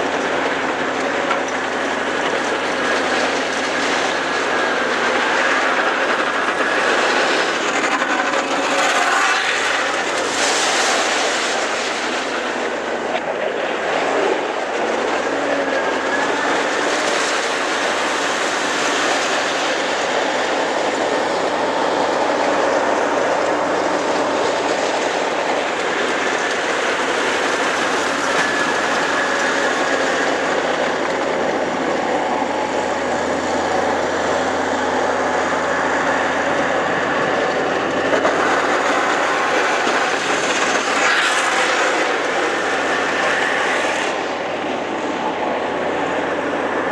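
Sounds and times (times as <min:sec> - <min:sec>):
diesel engine running: 0:00.0 - 0:46.9
tracks clattering: 0:00.0 - 0:46.9.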